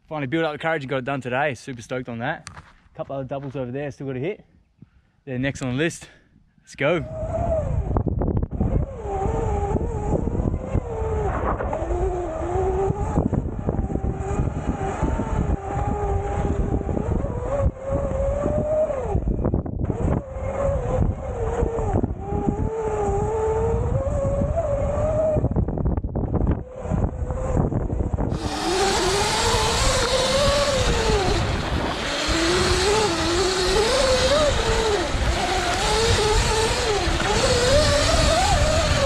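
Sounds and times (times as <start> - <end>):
rumble of wind and tyres: 6.4 - 39.0
electric motor whine: 7.1 - 39.0.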